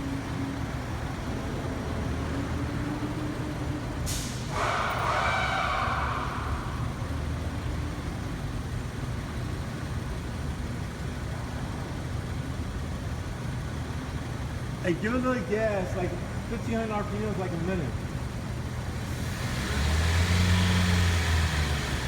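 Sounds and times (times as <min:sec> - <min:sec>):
rough idling car engine: 0:00.0 - 0:22.0.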